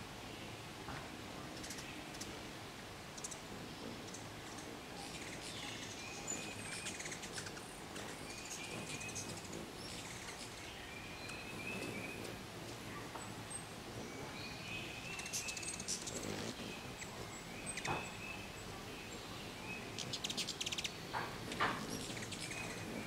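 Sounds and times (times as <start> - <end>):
low background hiss: 0.0 - 23.0.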